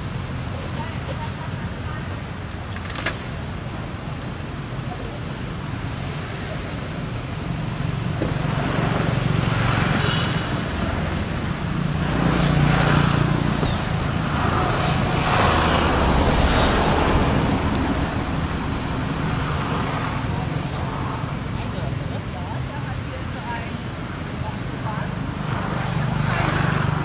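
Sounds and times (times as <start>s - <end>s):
vehicles passing: 0.0s - 27.0s.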